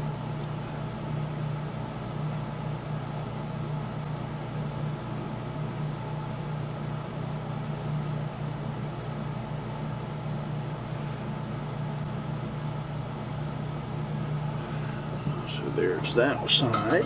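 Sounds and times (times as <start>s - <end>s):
machine hum with hiss: 0.0s - 17.0s.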